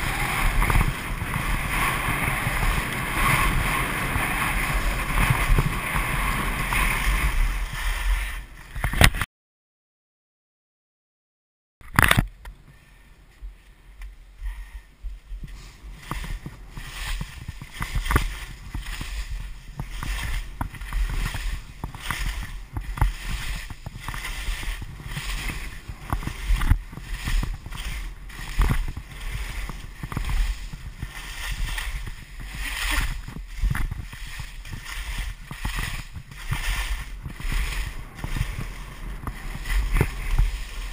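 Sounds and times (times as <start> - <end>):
skis scraping over snow: 0.0 - 9.0, 12.7 - 40.9
skis knocking on bumps: 0.0 - 9.2, 13.4 - 40.9
wind rumble on microphone: 0.0 - 9.2, 11.8 - 40.9.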